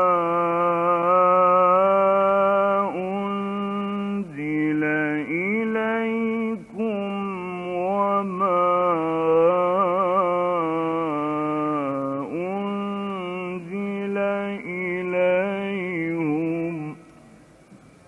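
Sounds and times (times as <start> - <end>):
man chanting recitation: 0.0 - 17.1.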